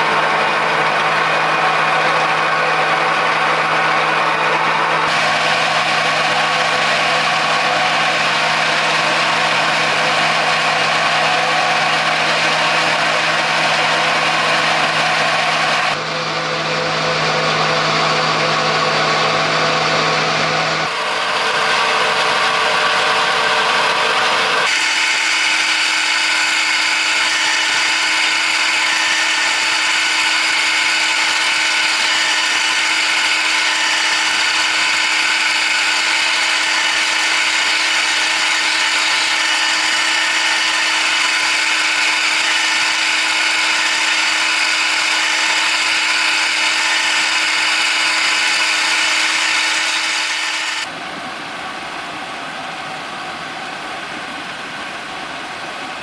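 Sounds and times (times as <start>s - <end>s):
power tool running: 0.0s - 51.0s.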